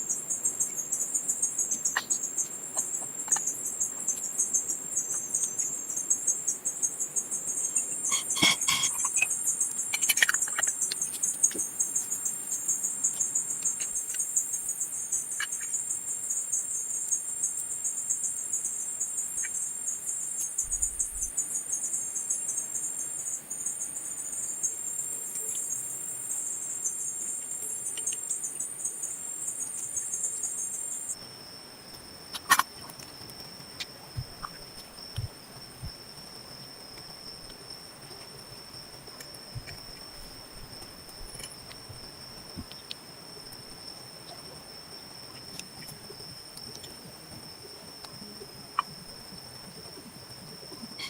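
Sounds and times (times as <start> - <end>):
insects chirring: 0.0 - 51.0.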